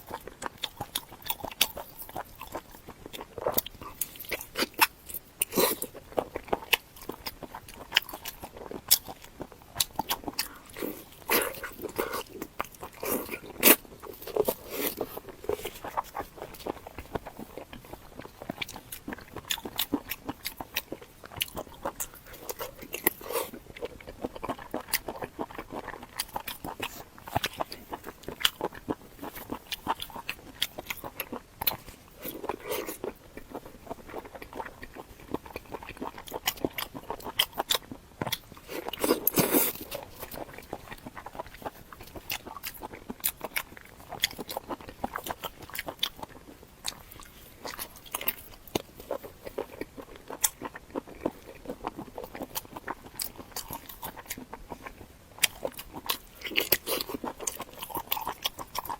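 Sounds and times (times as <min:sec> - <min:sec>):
chewing crunchy cartilage: 0:00.0 - 0:58.9.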